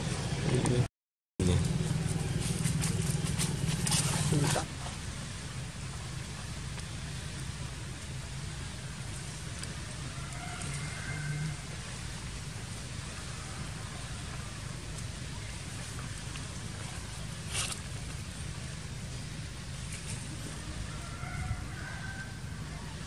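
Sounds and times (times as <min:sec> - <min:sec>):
outdoor hiss and rumble: 0:00.0 - 0:23.0.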